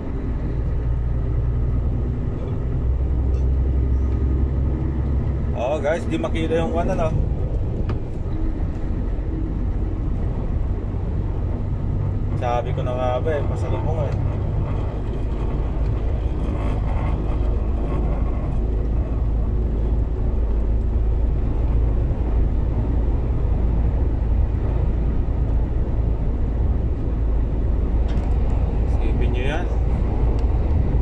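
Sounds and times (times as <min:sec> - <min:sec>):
vehicle cabin rumble: 0:00.0 - 0:31.0.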